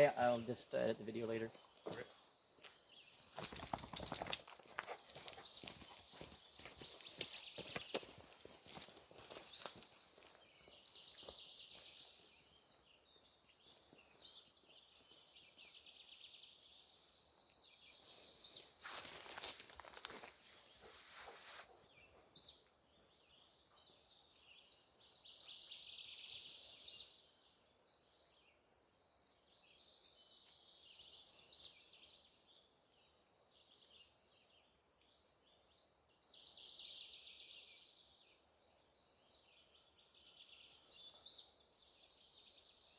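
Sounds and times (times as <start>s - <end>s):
high chirping birds: 0.0s - 42.9s
songbird singing: 0.0s - 42.9s.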